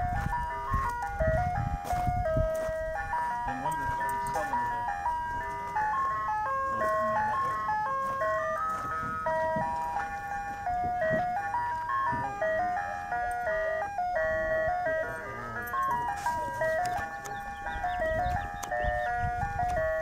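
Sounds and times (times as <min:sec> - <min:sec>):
ice cream truck chime tune: 0:00.0 - 0:20.0.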